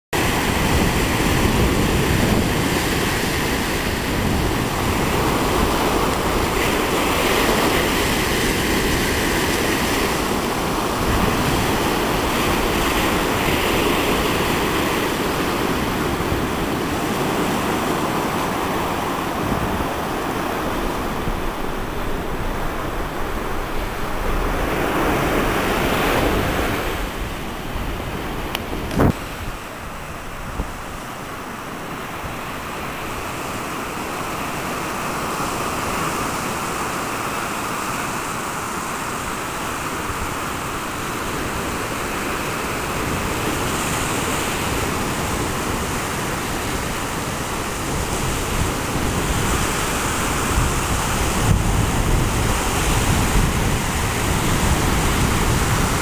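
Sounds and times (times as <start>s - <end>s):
ocean surf washing on beach: 0.1s - 56.0s
wind buffeting microphone: 0.2s - 36.8s, 39.0s - 56.0s.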